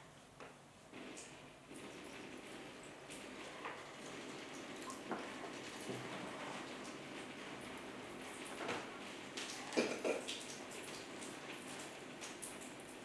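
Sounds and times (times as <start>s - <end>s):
water trickling and dripping: 1.0s - 13.0s.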